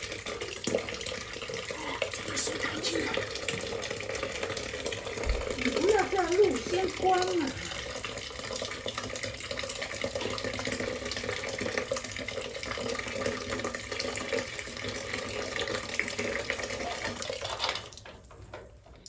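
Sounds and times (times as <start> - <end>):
water running hard from a drain: 0.0 - 19.0.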